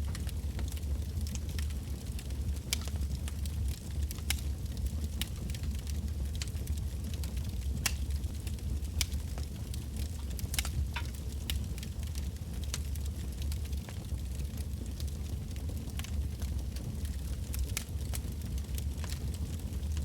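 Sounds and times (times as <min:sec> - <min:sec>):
burning logs crackling and popping: 0:00.0 - 0:20.0
low rumble of flames: 0:00.0 - 0:20.0.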